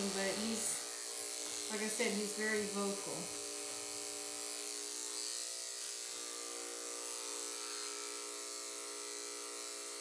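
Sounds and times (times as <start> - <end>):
electric pet clippers running: 0.0 - 10.0.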